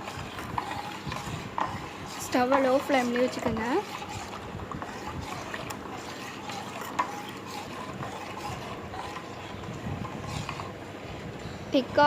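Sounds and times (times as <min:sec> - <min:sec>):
utensil scraping and knocking a pan: 0:00.0 - 0:10.8.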